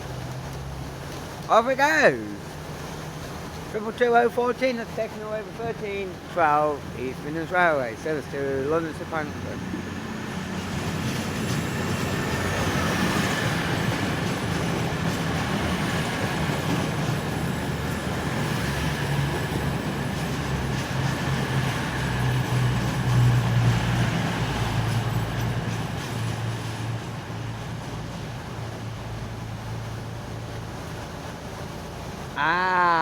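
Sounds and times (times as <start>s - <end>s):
diesel train engines droning: 0.0s - 33.0s.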